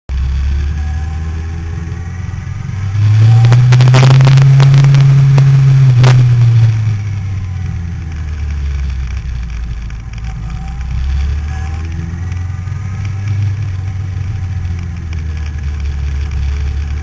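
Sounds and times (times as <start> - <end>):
motorcycle engine revving: 0.1 - 17.0
crackling clicks: 3.2 - 17.0.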